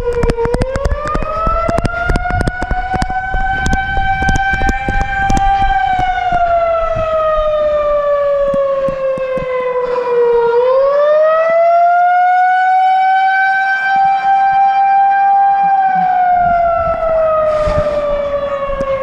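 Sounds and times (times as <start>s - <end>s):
warning siren wailing: 0.0s - 19.0s.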